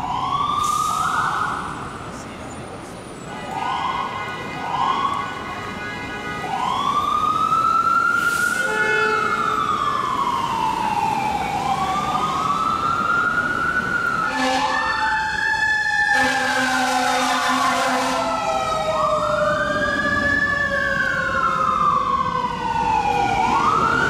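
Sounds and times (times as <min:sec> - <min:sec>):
ambulance siren wailing: 0:00.0 - 0:02.2, 0:03.2 - 0:24.0.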